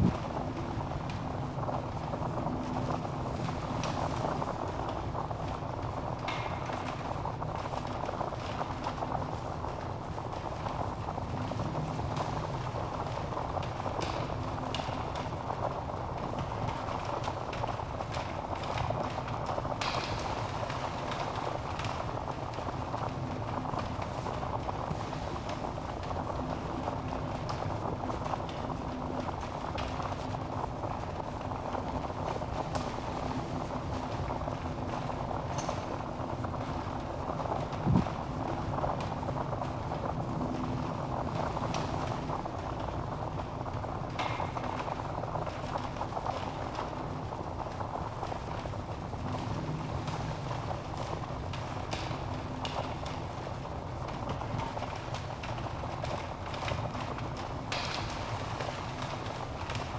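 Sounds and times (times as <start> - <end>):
flames rushing: 0.0 - 59.9
logs crackling and popping: 0.0 - 59.9.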